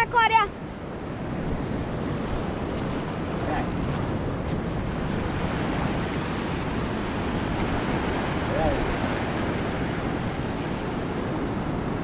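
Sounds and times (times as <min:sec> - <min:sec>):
wind rumbling on microphone: 0:00.0 - 0:12.0
small waves washing onto sand: 0:00.6 - 0:12.0.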